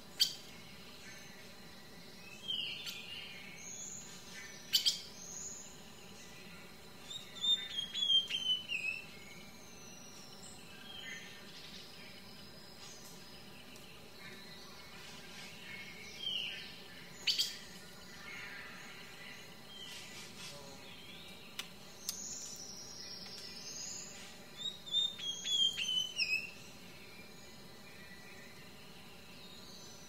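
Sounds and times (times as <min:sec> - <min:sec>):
steady background hum: 0:00.0 - 0:30.0
birds chirping and whistling: 0:00.1 - 0:30.0.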